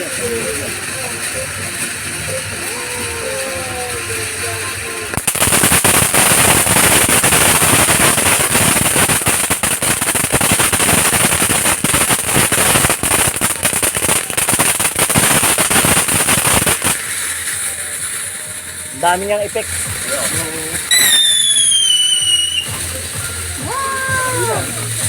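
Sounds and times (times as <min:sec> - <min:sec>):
firework crackling: 0:00.0 - 0:25.0.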